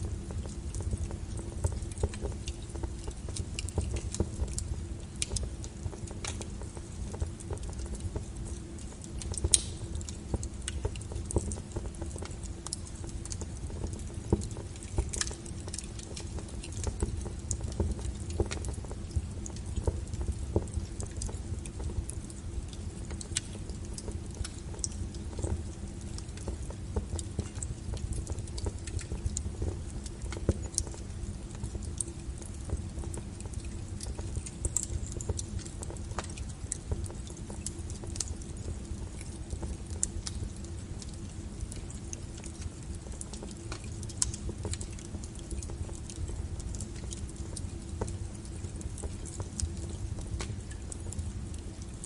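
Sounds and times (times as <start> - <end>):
firewood crackling and popping: 0.0 - 52.0
wood fire burning: 0.0 - 52.0.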